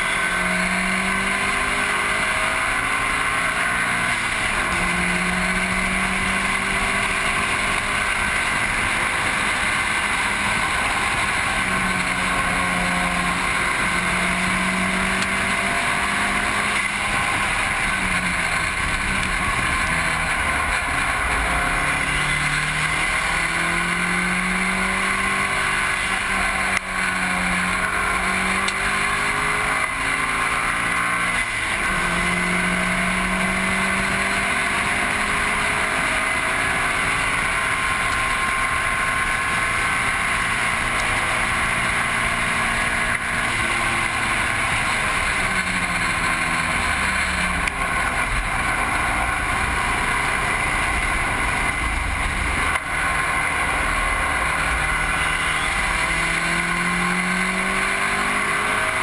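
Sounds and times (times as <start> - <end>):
racing car engine revving: 0.0 - 59.0
wind rush and tyre roar: 0.0 - 59.0.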